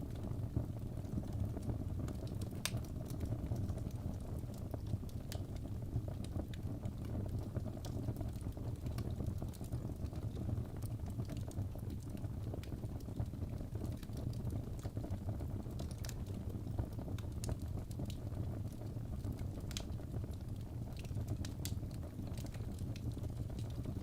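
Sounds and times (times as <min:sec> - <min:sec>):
fire crackling and popping: 0:00.0 - 0:24.0
fire low rumble: 0:00.0 - 0:24.0.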